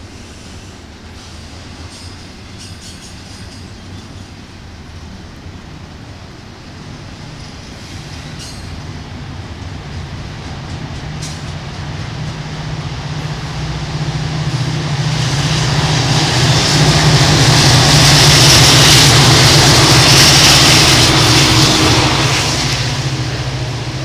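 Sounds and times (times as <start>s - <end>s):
train wheel and rail noise: 0.0s - 24.0s.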